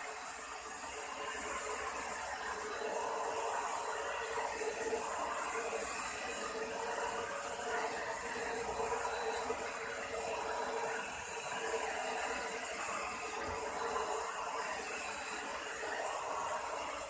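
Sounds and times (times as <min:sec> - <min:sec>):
handheld vacuum cleaner running: 0:00.0 - 0:17.0.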